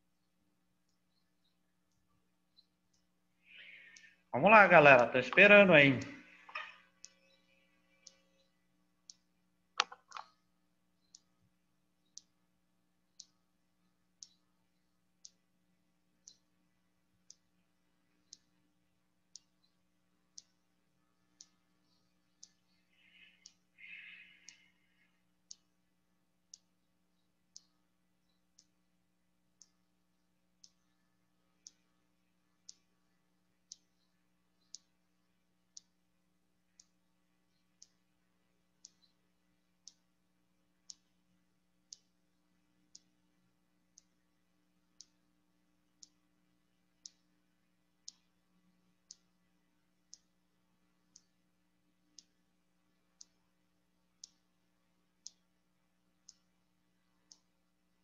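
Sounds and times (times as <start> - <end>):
faint clock ticks: 0.0 - 58.0
low steady hum: 0.0 - 58.0.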